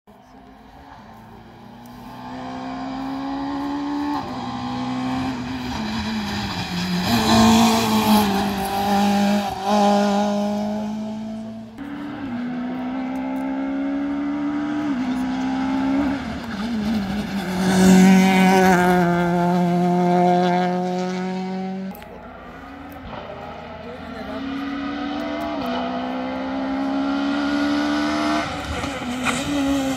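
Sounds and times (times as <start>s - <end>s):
rally car engine accelerating: 1.0s - 29.9s.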